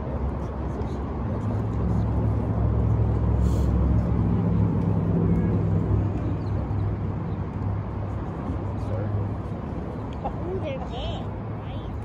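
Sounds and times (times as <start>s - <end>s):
passing vehicle engine rumble: 0.0s - 12.0s.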